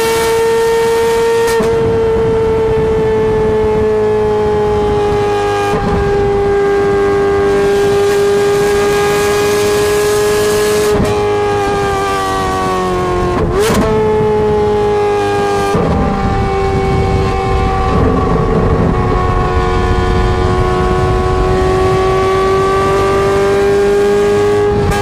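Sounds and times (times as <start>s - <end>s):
loud engine revving: 0.0s - 25.0s.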